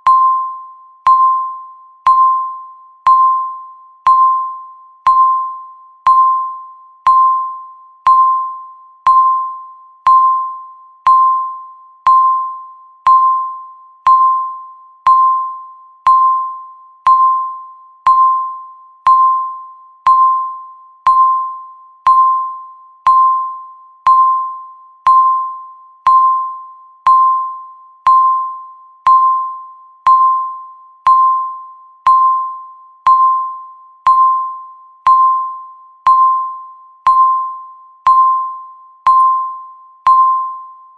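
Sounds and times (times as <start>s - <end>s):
timer beeping: 0.0s - 40.9s.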